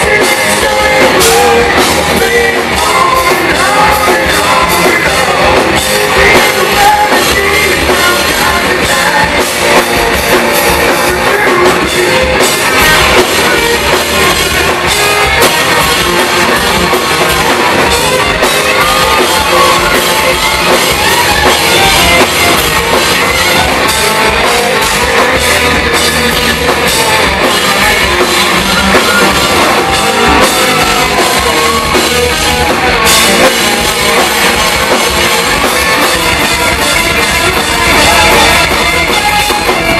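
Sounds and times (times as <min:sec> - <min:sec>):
distorted electric guitars: 0:00.0 - 0:39.9
drum kit: 0:00.0 - 0:39.9
lead vocalist singing: 0:00.0 - 0:39.9.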